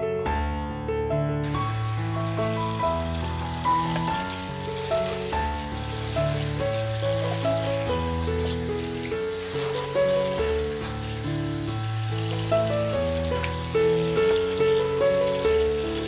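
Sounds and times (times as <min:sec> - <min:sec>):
background music: 0:00.0 - 0:16.0
hands rinsing leaves: 0:01.4 - 0:16.0
tap water running into bowl: 0:01.4 - 0:16.0.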